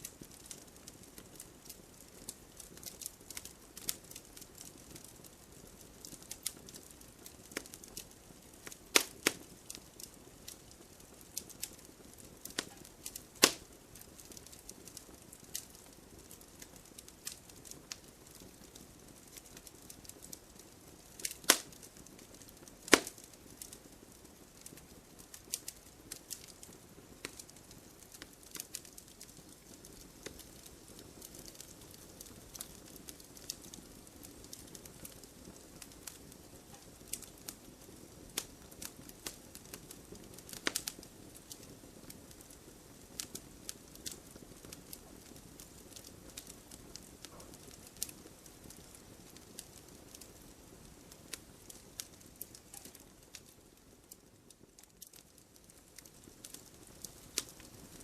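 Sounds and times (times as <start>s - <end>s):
loud pops of burning logs: 0.0s - 58.0s
wood fire crackling: 0.0s - 58.0s.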